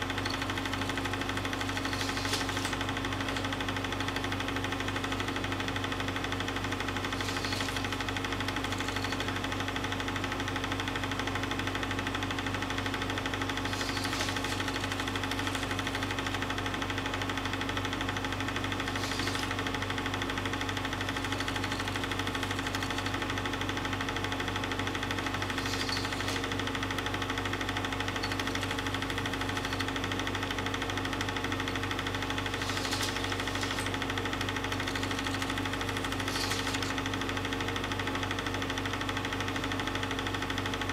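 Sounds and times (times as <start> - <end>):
film projector hum and rattle: 0.0 - 40.9.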